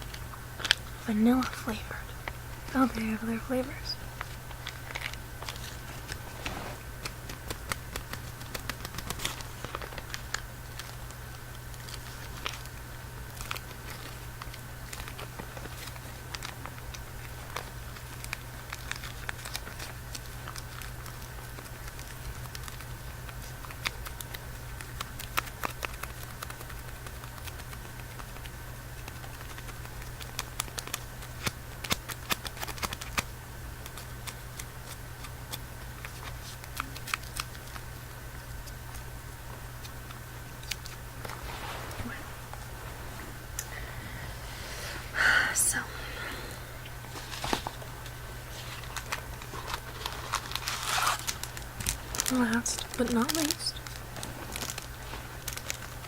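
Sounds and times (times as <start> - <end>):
candy wrapper crinkling: 0.0 - 43.8, 46.9 - 56.0
steady background hum: 0.0 - 56.0.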